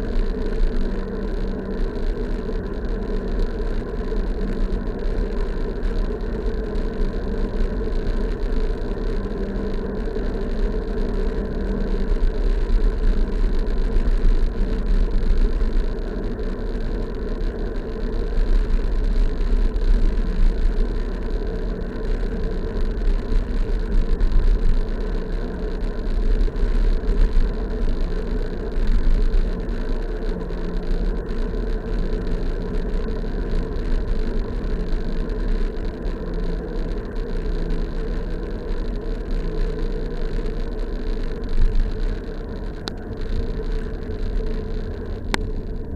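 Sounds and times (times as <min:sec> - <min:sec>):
bike road noise: 0:00.0 - 0:45.9
low hum: 0:00.0 - 0:45.9.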